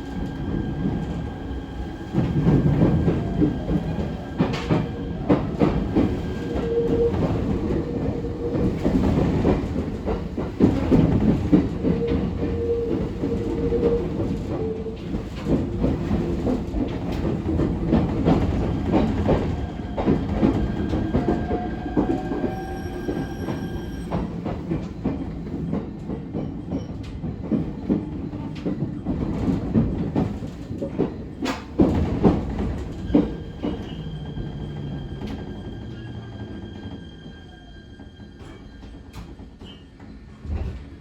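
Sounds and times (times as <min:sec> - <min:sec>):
electric train rumbling: 0:00.0 - 0:41.0.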